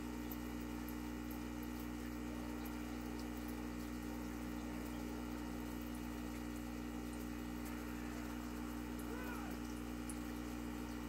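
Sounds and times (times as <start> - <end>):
aquarium pump humming: 0.0 - 11.0
water trickling: 0.0 - 11.0.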